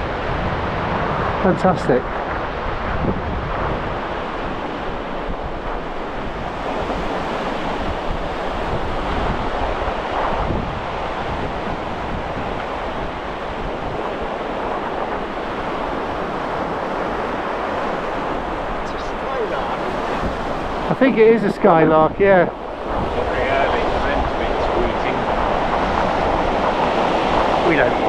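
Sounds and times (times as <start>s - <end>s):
surf hissing on shore: 0.0s - 28.0s
wind buffeting microphone: 0.0s - 28.0s.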